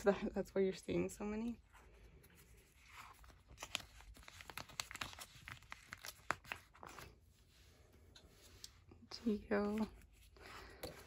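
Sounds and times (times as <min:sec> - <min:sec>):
plastic binder pages rustling: 0:01.5 - 0:11.0.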